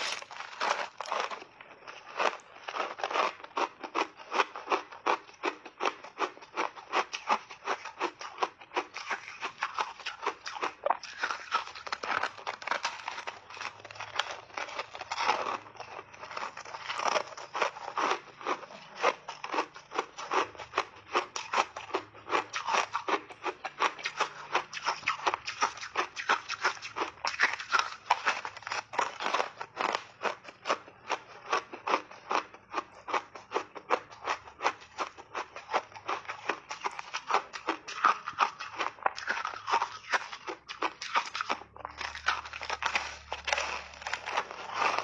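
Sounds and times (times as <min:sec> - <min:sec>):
crunching ice chewing: 0:00.0 - 0:45.0.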